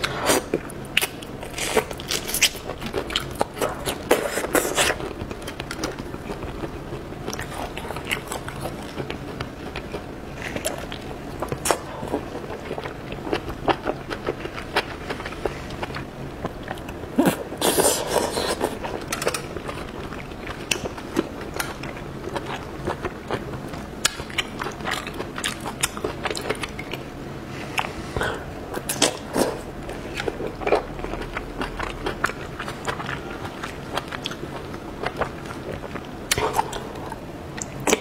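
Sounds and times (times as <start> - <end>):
chewing with wet smacking: 0.8 - 17.4, 18.6 - 27.2, 27.8 - 38.0.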